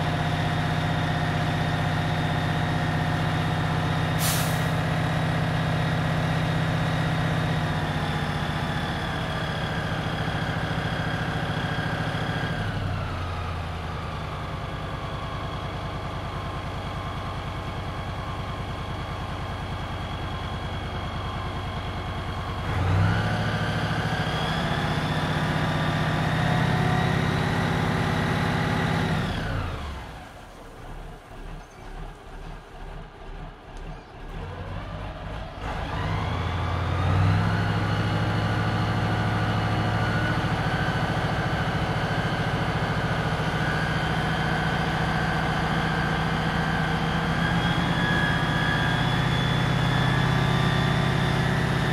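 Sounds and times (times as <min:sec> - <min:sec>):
fire engine engine revving: 0:00.0 - 0:51.9.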